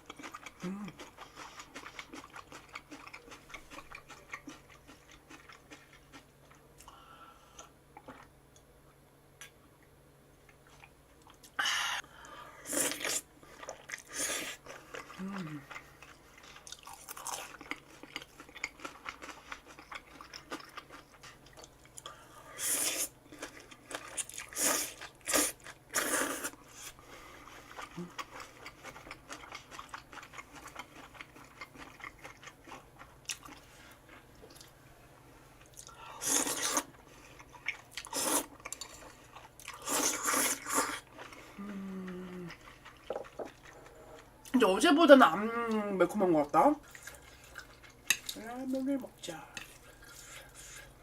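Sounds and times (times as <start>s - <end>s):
chewing with crunchy bites: 0.0s - 8.3s, 12.2s - 34.8s, 35.5s - 44.6s, 46.8s - 51.0s.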